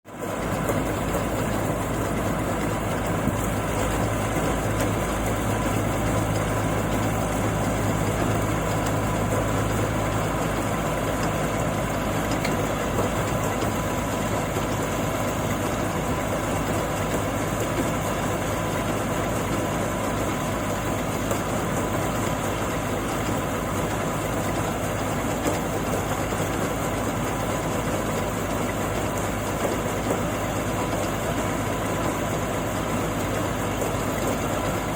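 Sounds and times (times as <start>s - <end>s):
machine engine running: 0.1s - 34.9s.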